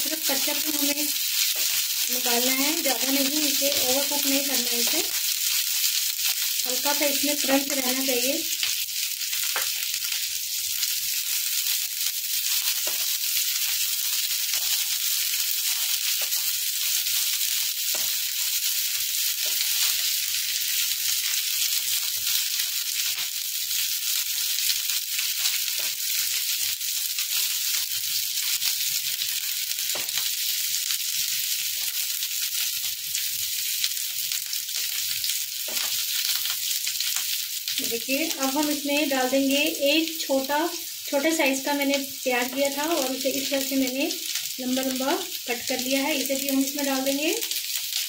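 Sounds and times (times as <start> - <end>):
vegetables sizzling in hot oil: 0.0 - 48.0.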